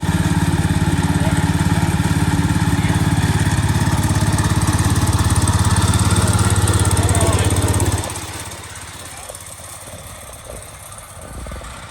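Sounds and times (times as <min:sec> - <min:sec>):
engine running: 0:00.0 - 0:11.9.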